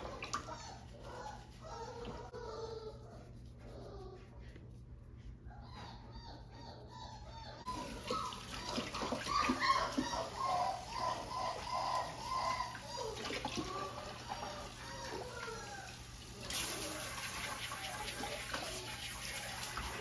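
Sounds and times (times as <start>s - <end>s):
puppies whining and squealing: 0.0s - 16.4s.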